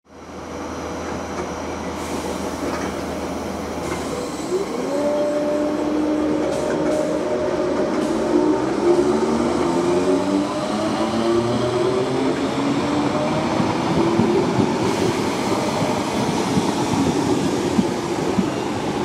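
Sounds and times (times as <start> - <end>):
electric train hum and whine: 0.1 - 19.0.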